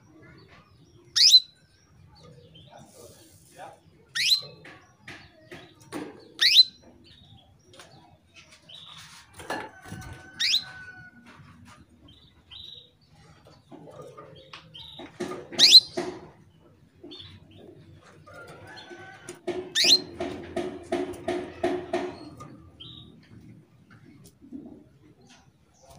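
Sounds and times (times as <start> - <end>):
soft canary chirps: 0.0 - 20.4, 21.6 - 25.9.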